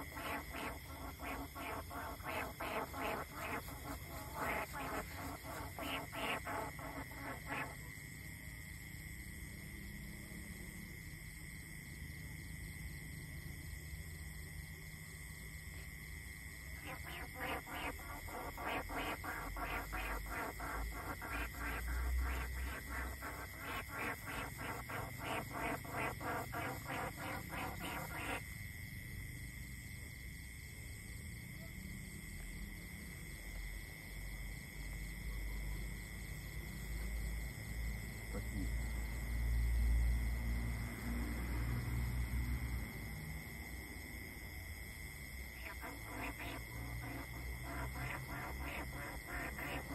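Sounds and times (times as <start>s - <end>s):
night insects droning: 0.0s - 49.9s.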